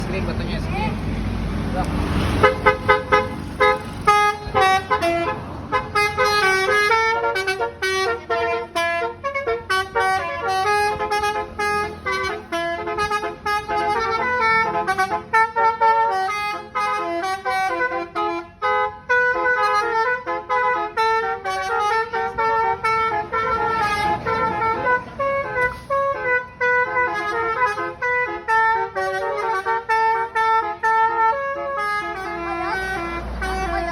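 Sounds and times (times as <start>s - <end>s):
multi-tone musical horn tune: 2.4s - 33.9s.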